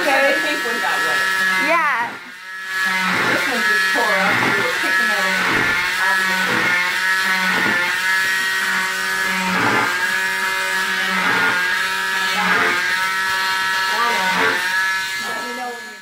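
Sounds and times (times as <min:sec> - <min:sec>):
cast saw whining: 0:00.0 - 0:16.0.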